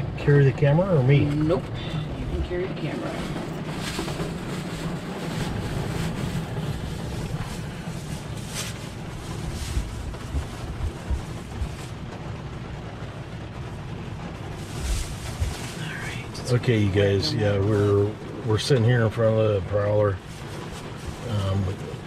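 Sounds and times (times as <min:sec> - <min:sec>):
steady rushing noise: 0:00.0 - 0:22.0
truck engine running: 0:00.0 - 0:22.0.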